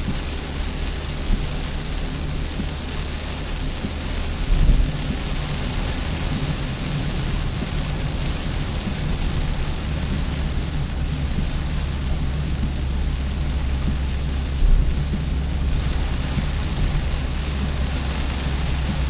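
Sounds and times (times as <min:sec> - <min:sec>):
car driving rumble: 0:00.0 - 0:19.0
rain hissing on car: 0:00.0 - 0:19.0.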